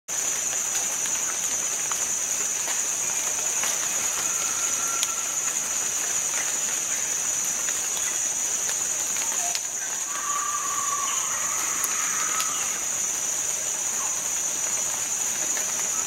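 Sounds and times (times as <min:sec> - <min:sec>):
insect chorus drone: 0:00.1 - 0:16.0.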